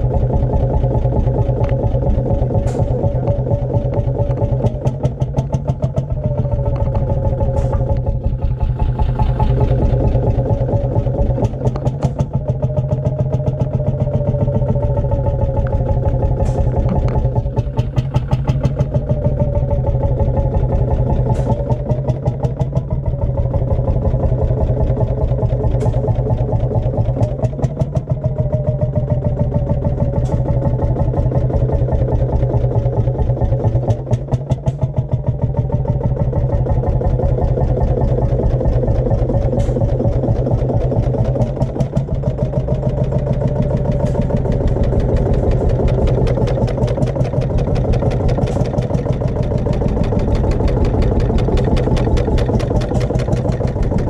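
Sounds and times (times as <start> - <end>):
sharp engine knocks: 0.0 - 54.0
tractor engine idling: 0.0 - 54.0.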